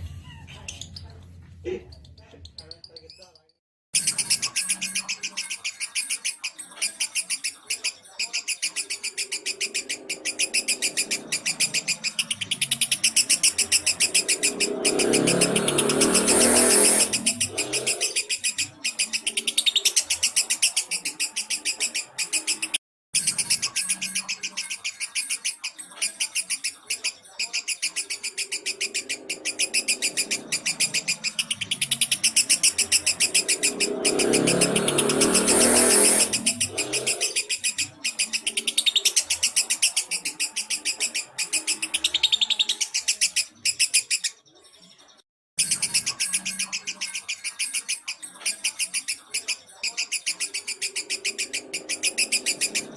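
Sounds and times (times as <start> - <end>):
low sound under chirping: 1.9 - 44.4, 45.6 - 52.9
lovebird chirping trill: 4.0 - 44.4, 45.6 - 52.9.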